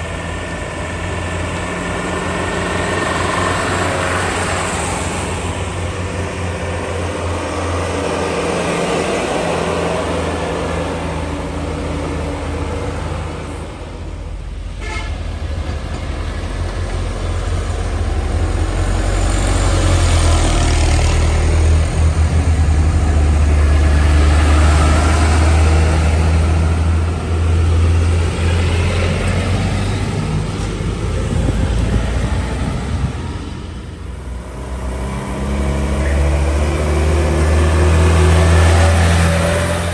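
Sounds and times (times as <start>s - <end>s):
diesel truck engines passing: 0.0s - 39.9s.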